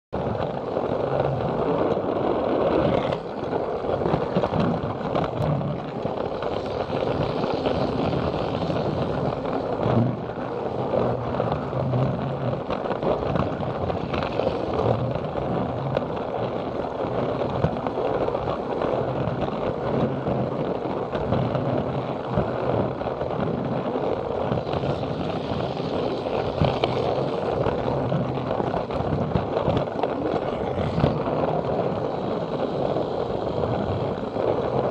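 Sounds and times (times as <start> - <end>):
wheels rattling on plastic track: 0.2 - 34.9.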